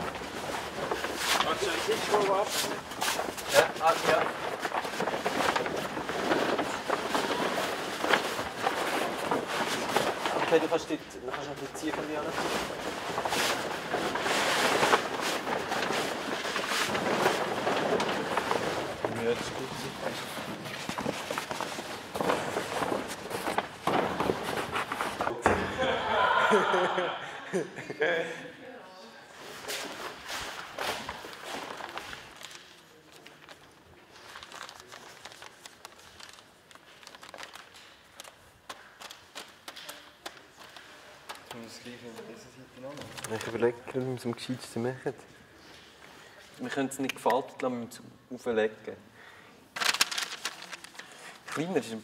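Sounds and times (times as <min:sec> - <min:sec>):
paper crackling and rustling: 0:00.0 - 0:25.5, 0:29.4 - 0:46.0, 0:49.7 - 0:52.0.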